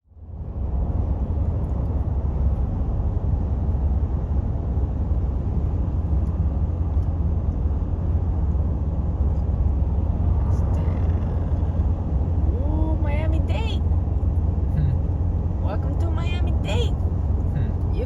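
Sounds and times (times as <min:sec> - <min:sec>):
moving vehicle rumble: 0:00.0 - 0:18.0.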